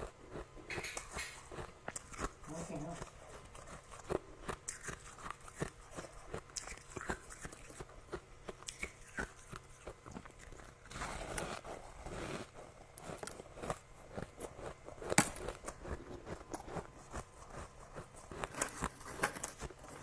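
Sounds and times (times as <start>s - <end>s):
chewing crunchy frost: 0.0s - 20.0s.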